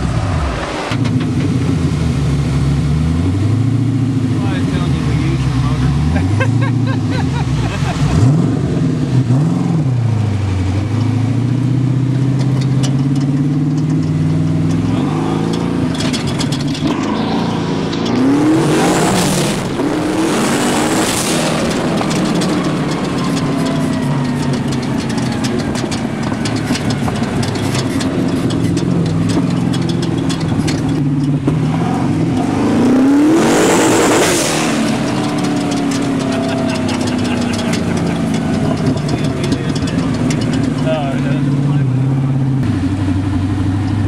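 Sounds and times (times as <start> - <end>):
engine revving: 0.0 - 44.0.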